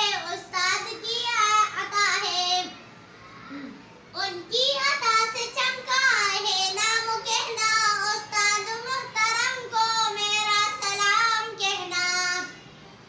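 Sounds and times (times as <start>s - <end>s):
girl singing: 0.0s - 2.8s, 4.2s - 12.6s.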